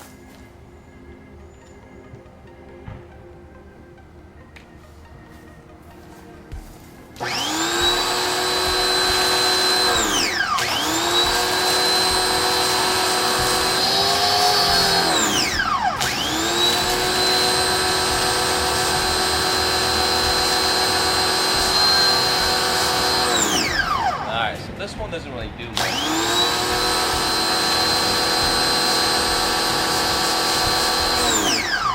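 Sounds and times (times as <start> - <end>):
pressure washer motor whining: 4.6 - 31.9.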